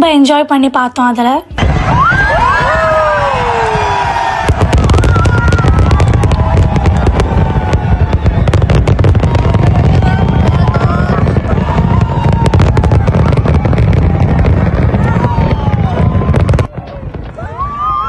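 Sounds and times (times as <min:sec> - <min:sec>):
deep low rumble: 0:01.5 - 0:18.0
fireworks bangs and crackles: 0:01.5 - 0:18.0.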